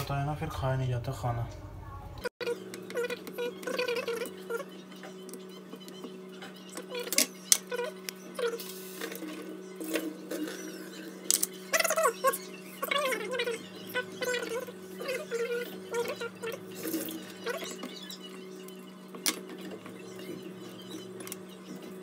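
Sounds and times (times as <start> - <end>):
steady electrical hum: 0.0 - 22.0
faint pitched sounds: 0.3 - 22.0.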